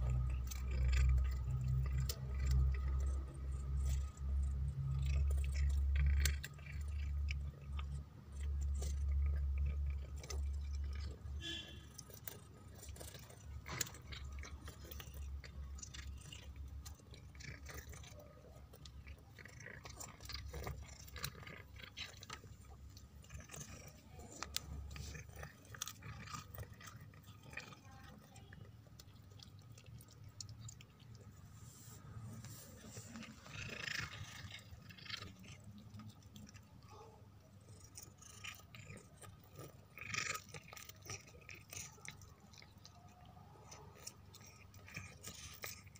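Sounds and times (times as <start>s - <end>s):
cat chewing meat: 0.0s - 45.9s.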